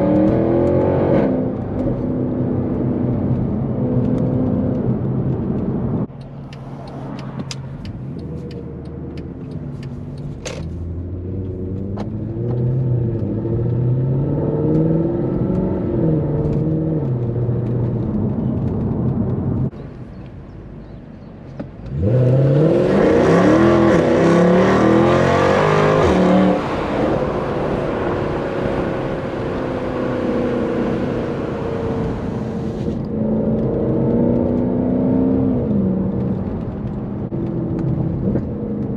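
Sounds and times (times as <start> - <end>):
car engine revving through gears: 0.0 - 19.7, 21.8 - 38.9.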